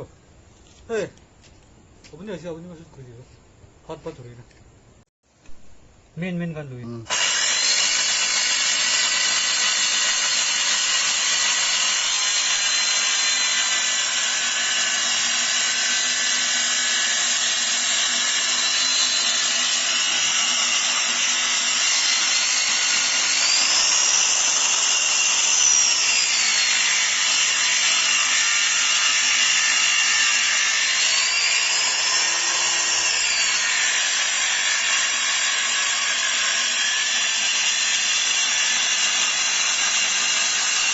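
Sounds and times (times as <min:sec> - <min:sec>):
circular saw cutting wood: 0:06.8 - 0:40.9.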